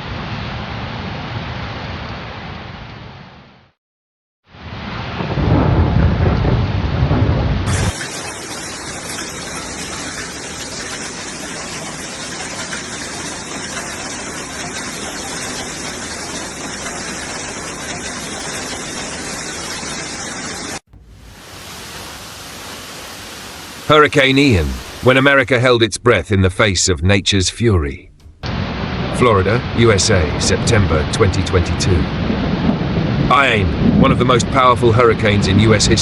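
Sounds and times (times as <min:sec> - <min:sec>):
thunder rumbling: 0:04.6 - 0:25.4, 0:27.8 - 0:36.0
heavy rain pouring: 0:04.6 - 0:25.6, 0:28.2 - 0:36.0.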